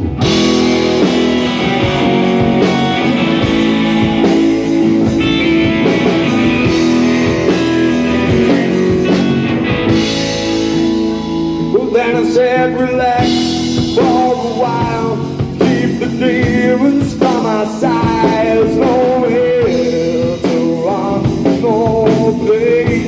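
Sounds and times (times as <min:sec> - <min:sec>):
drum beat with cymbals: 0:00.0 - 0:11.4, 0:13.2 - 0:23.0
electric guitars strumming: 0:00.0 - 0:23.0.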